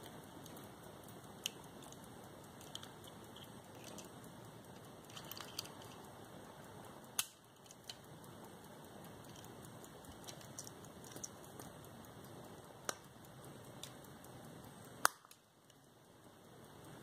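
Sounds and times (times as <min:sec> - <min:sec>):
faint steady hiss: 0:00.0 - 0:17.0
pocket watch clicks: 0:00.0 - 0:17.0.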